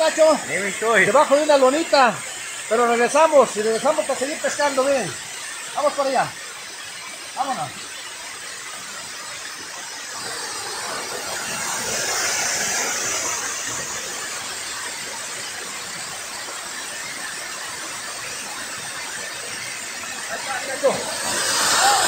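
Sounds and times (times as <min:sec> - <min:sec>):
water rushing down stone spillway: 0:00.0 - 0:22.0.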